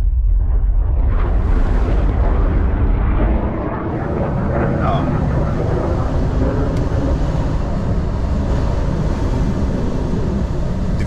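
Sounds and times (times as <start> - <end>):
truck engine and tyre rumble: 0.7 - 11.0.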